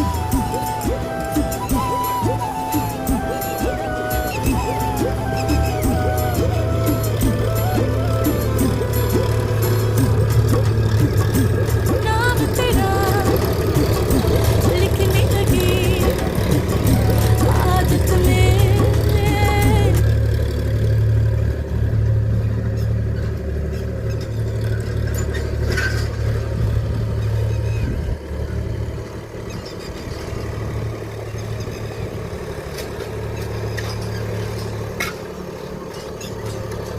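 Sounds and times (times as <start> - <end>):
tilling machine engine running: 0.0 - 36.9.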